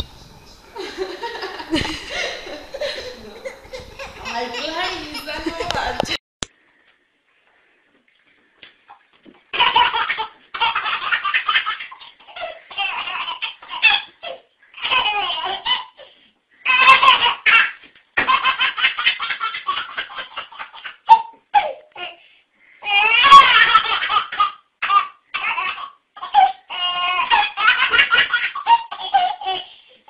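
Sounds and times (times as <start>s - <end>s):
baby laughing: 1.2s - 6.1s, 9.5s - 22.2s, 22.8s - 29.8s.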